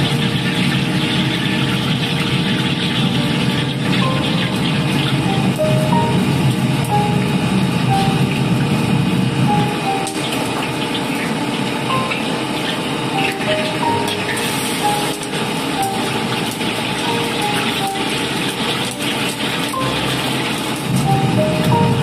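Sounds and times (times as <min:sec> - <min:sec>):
gas burner roaring: 0:00.0 - 0:22.0
oil sizzling and bubbling: 0:00.0 - 0:22.0.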